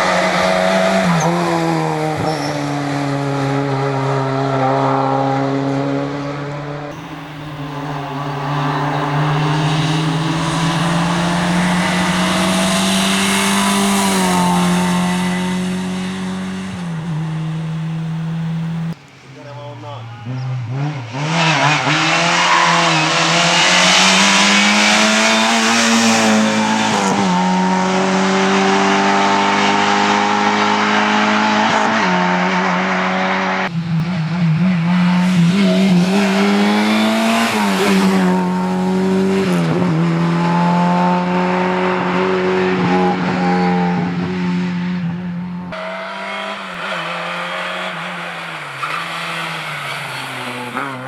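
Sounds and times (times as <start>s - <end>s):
rally car engine revving: 0.0s - 19.0s, 20.2s - 51.0s
road and tyre noise: 0.0s - 51.0s.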